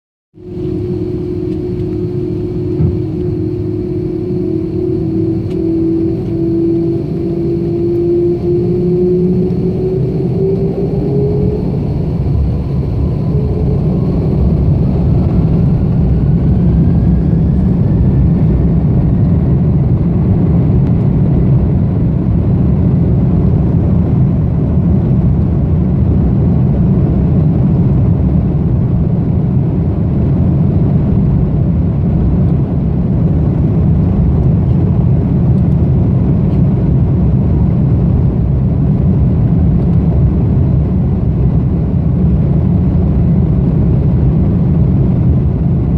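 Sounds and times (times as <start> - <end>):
jet engines rumbling: 0.4 - 45.9
thin engine whine: 0.4 - 45.9.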